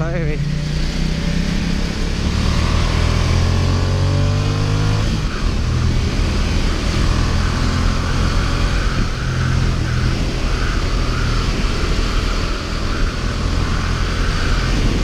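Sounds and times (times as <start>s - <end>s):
gear change: 0.0s - 15.0s
motorcycle engine accelerating: 0.0s - 15.0s.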